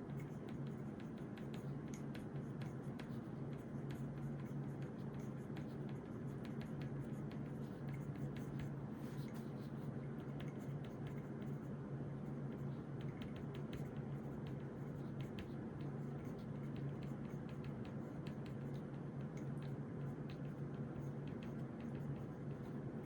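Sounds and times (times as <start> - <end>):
low room hum: 0.0 - 23.0
pen tapping and scratching on paper: 0.1 - 9.6, 10.2 - 11.7, 12.5 - 22.9.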